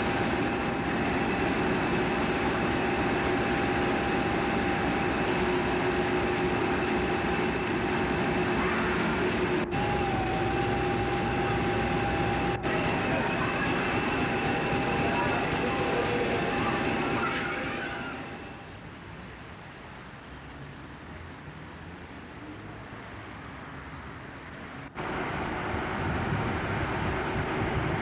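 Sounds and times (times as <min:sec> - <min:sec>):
high engine whine: 0:00.0 - 0:19.4, 0:24.3 - 0:28.0
diesel locomotive engine drone: 0:00.0 - 0:28.0.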